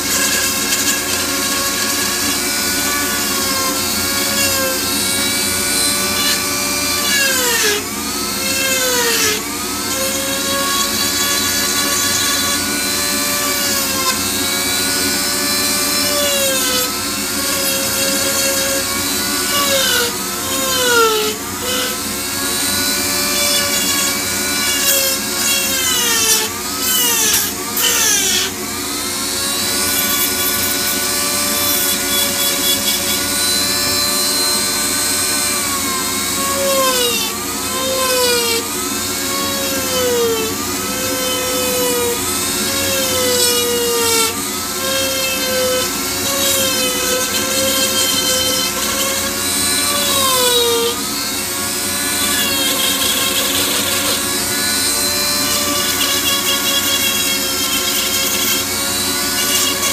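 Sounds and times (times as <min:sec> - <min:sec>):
rotary carving tool whining: 0:00.0 - 0:59.9.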